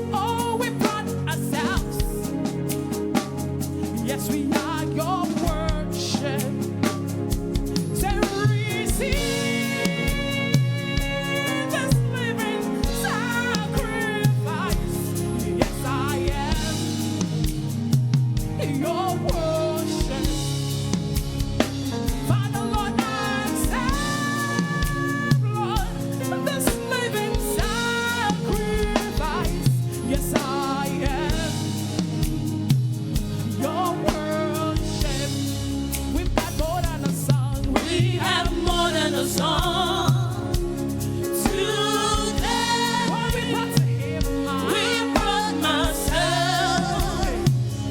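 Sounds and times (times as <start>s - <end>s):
band with drum kit: 0.0s - 47.9s
people singing: 0.0s - 47.9s.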